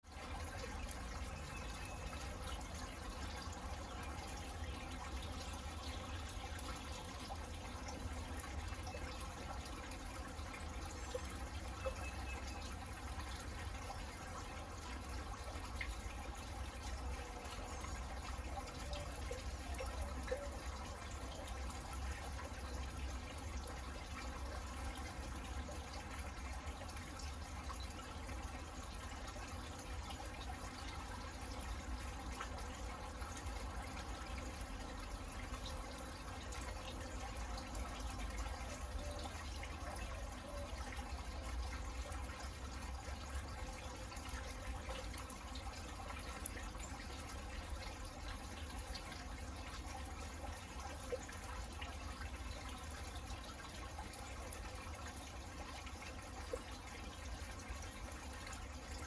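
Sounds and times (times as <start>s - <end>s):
water drips: 0.0s - 59.0s.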